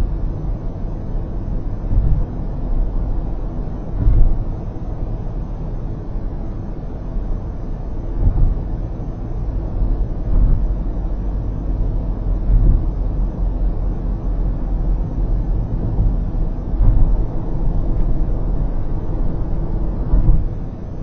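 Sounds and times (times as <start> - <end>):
car road and tyre rumble: 0.0 - 21.0.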